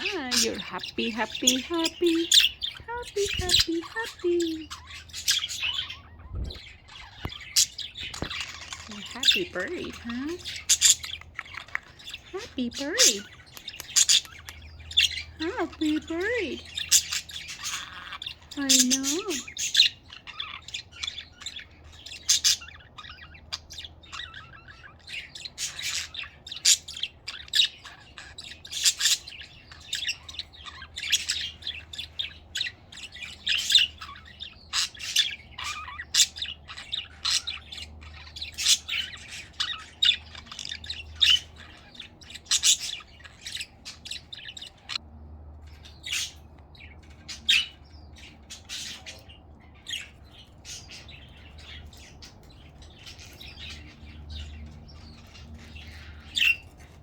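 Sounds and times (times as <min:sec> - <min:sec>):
budgerigars chattering: 0:00.0 - 0:45.0, 0:45.6 - 0:57.0.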